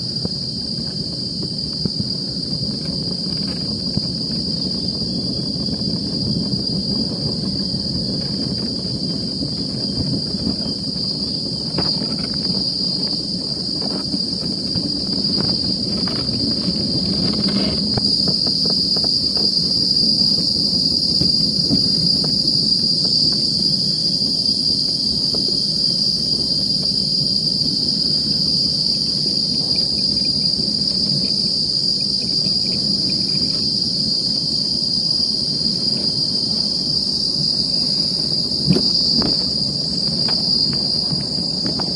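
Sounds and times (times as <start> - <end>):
cart wheels rumbling on track: 0.0 - 41.9
high-pitched insect drone: 0.0 - 41.9.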